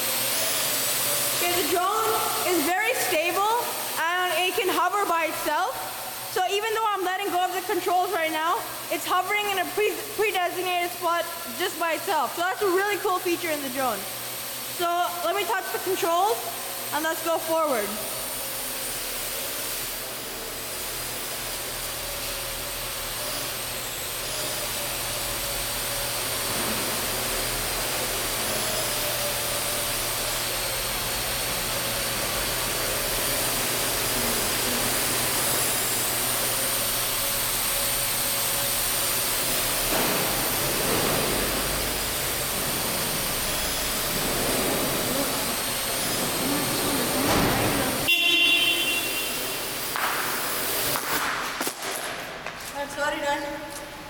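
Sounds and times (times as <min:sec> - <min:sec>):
drone rotors whirring: 0:00.0 - 0:51.6.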